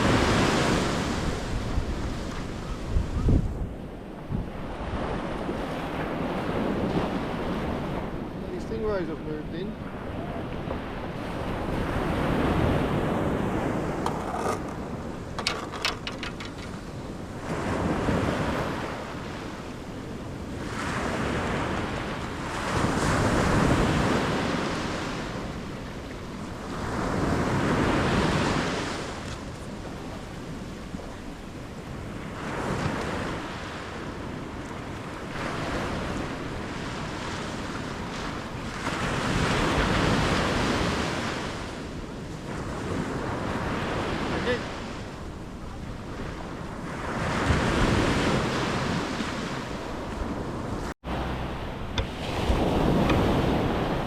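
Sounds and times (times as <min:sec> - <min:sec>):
surf breaking on beach: 0:00.0 - 0:03.7, 0:04.3 - 0:54.0
wind on microphone: 0:00.0 - 0:54.0.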